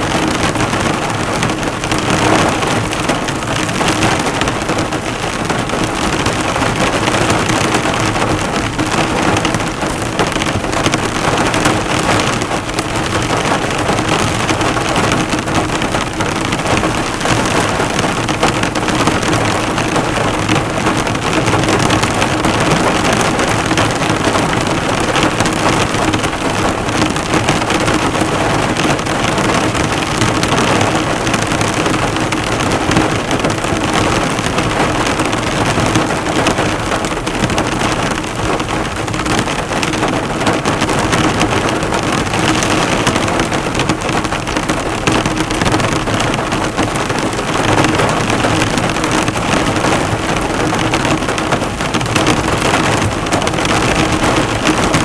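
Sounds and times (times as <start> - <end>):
heavy rain drumming on a car: 0.0 - 55.0.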